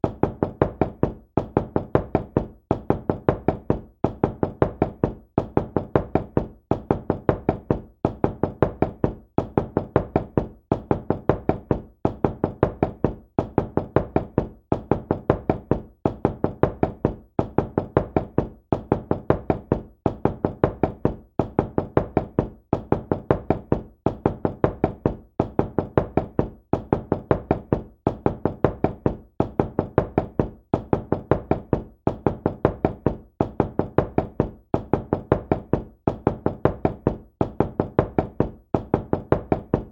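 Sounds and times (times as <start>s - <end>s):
knocking on a door: 0.0s - 39.9s.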